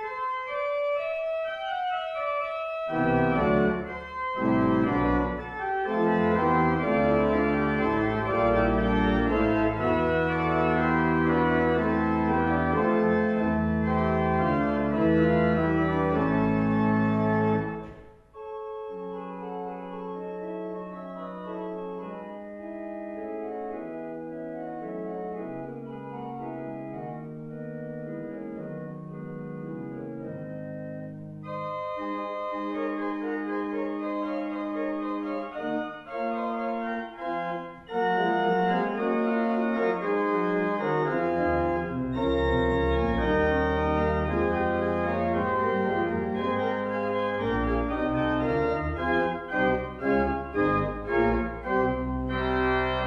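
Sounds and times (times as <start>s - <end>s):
pipe organ playing loudly: 0.0s - 53.0s.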